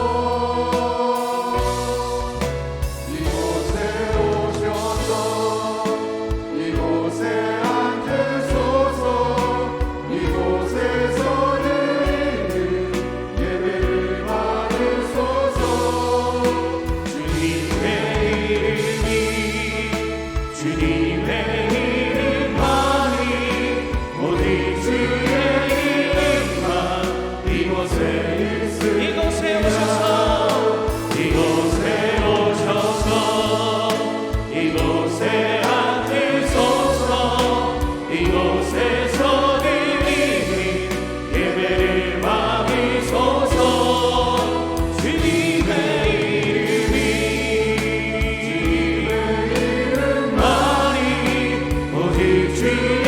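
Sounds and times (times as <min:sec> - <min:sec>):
band accompaniment: 0:00.0 - 0:53.0
group singing worship song: 0:00.0 - 0:53.0
held bass notes: 0:00.0 - 0:53.0.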